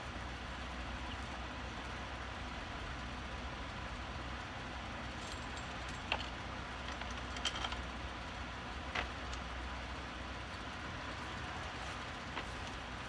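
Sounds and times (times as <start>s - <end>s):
exhaust fans humming: 0.0s - 13.0s.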